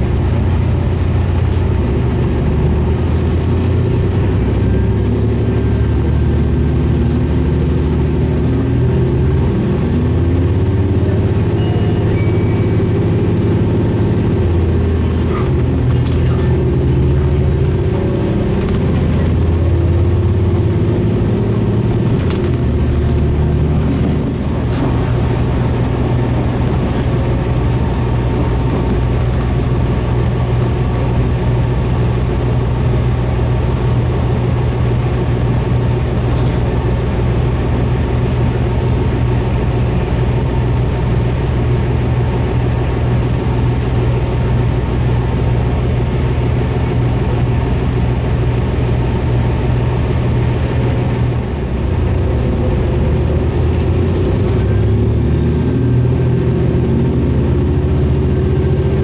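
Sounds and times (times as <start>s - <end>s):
diesel railcar engine drone: 0.0s - 59.0s
rail noise: 0.0s - 59.0s.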